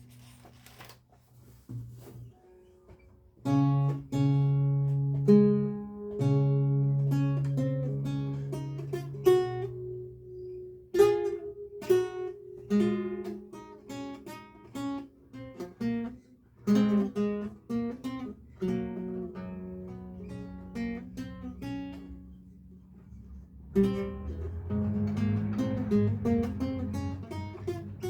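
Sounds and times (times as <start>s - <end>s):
lute playing: 3.5s - 16.1s, 16.7s - 28.0s.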